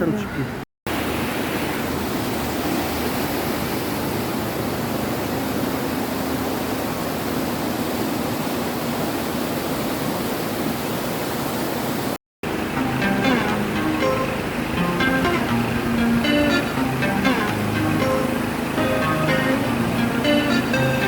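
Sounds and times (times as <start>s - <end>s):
waterfall roaring: 0.9s - 21.0s.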